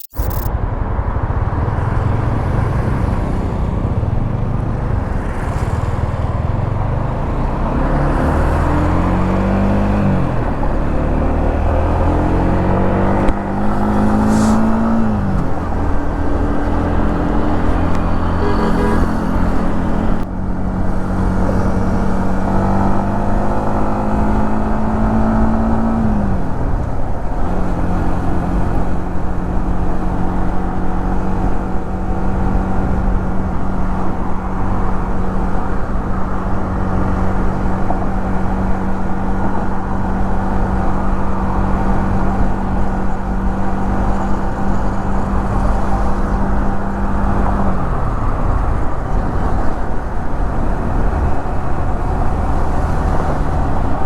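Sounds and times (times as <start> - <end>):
motorcycle engine and exhaust: 0.0 - 54.0
wind rumble on microphone: 0.0 - 54.0.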